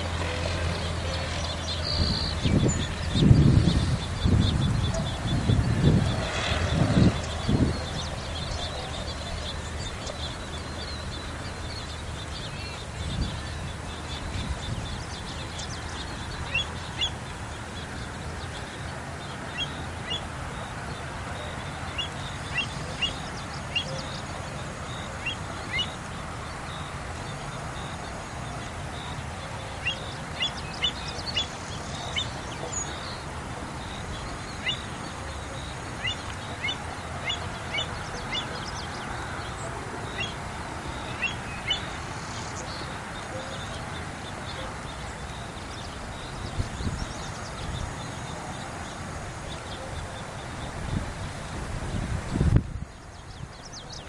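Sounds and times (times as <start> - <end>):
steady background hiss: 7.2 - 54.0.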